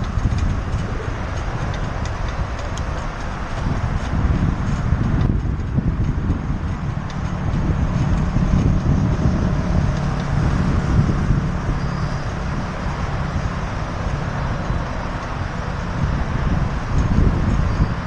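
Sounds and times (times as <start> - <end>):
bicycle rolling on asphalt: 0.0 - 18.0
wind buffeting microphone: 0.0 - 18.0.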